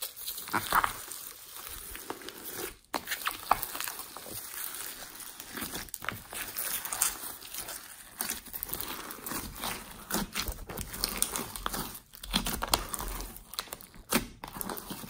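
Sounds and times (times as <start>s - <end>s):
hands squishing slime: 0.0s - 15.0s.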